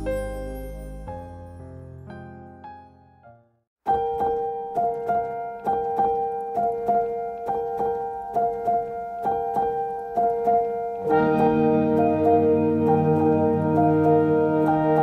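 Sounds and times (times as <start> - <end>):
keyboard melody: 0.0 - 15.0
low keyboard chords: 0.0 - 15.0.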